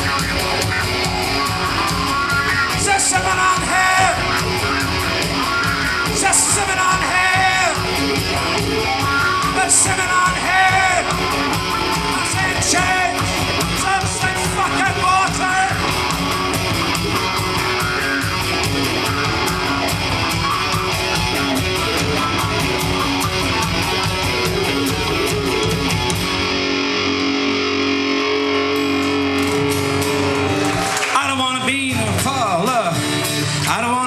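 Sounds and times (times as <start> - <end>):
electric guitar chords: 0.0 - 34.0
rock drums: 0.0 - 34.0.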